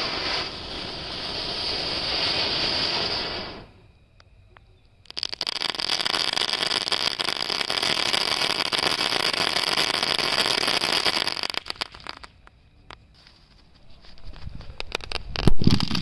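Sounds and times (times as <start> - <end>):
firecrackers crackling and popping: 0.0 - 3.7, 5.0 - 13.4, 14.0 - 16.0.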